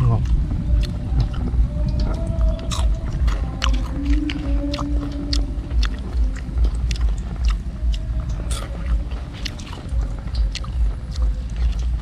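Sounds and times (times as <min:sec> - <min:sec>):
crunching and chewing fried food: 0:00.0 - 0:12.0.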